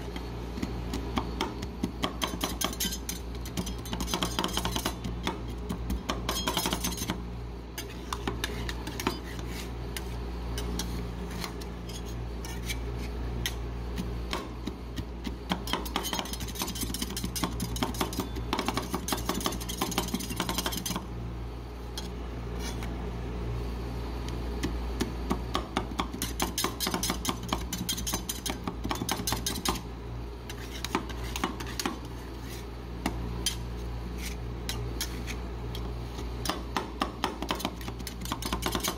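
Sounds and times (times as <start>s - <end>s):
metal spatulas chopping and scraping: 0.1s - 7.2s, 7.8s - 21.1s, 25.8s - 29.9s, 30.5s - 38.9s.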